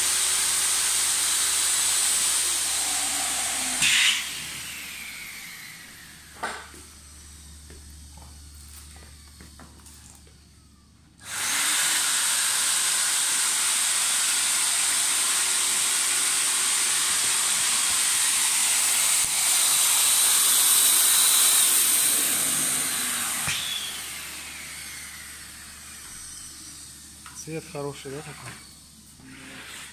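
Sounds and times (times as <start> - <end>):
electric air pump hissing: 0.0 - 10.3, 11.2 - 29.9.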